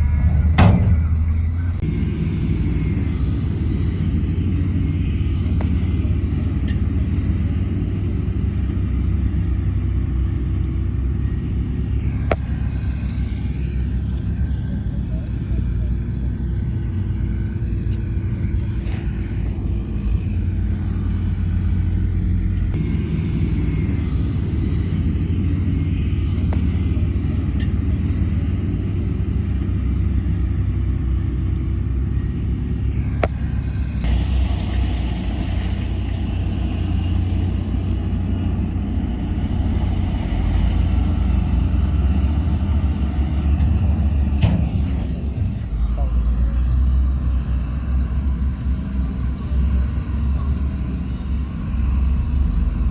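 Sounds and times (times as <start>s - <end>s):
diesel machinery rumbling: 0.0s - 52.9s
high noisy engine sound: 0.0s - 52.9s.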